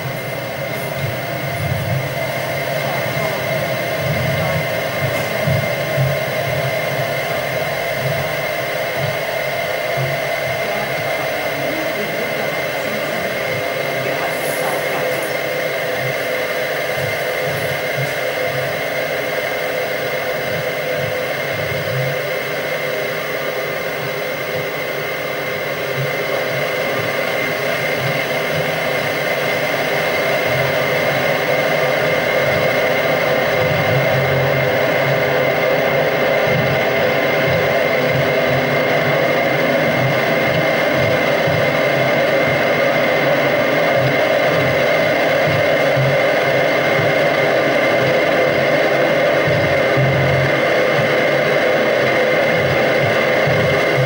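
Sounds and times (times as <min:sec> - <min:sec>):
electronic noise drone: 0:00.0 - 0:54.0.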